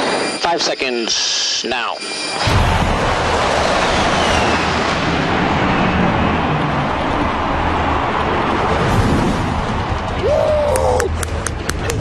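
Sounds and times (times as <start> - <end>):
fighter jets roaring overhead: 0.0 - 12.0.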